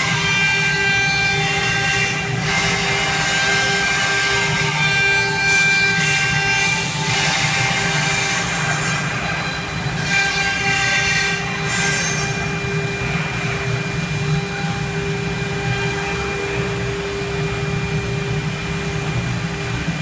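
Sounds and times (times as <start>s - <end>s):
router spindle whine: 0.0s - 20.0s.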